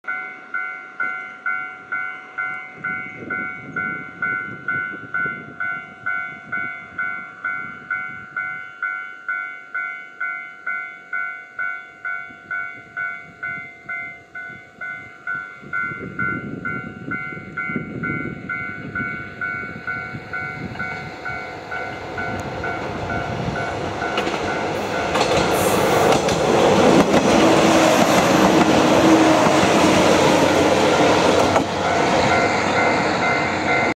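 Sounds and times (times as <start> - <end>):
level-crossing bell ringing: 0.0 - 25.4, 30.8 - 34.0
train engine and wheel noise: 0.0 - 34.0.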